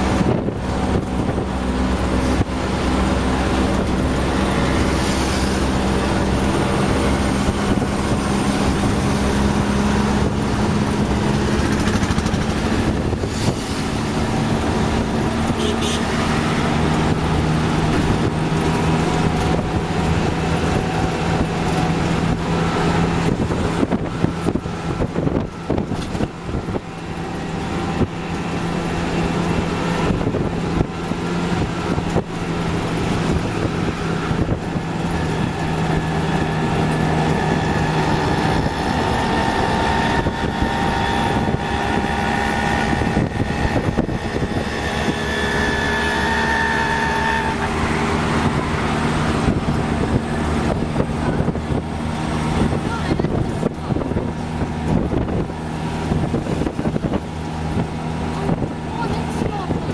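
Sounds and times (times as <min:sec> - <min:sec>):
auto-rickshaw engine running: 0:00.0 - 0:59.9
other auto-rickshaw engines: 0:00.0 - 0:59.9
road and wind noise: 0:00.0 - 0:59.9.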